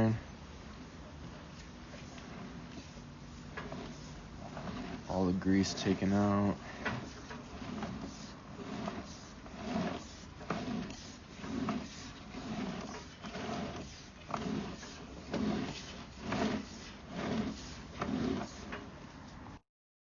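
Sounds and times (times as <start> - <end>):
camera cable scraping and clacking: 1.3 - 19.0.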